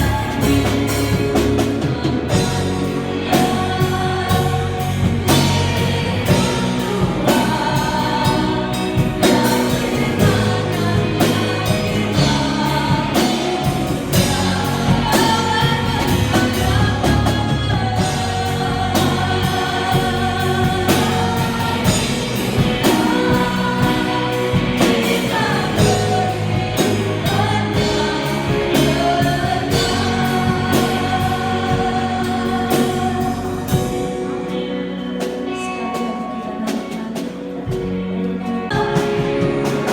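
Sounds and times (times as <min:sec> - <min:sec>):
steady drum beat: 0:00.0 - 0:34.4
band playing: 0:00.0 - 0:39.9
voices singing worship song: 0:00.0 - 0:39.9.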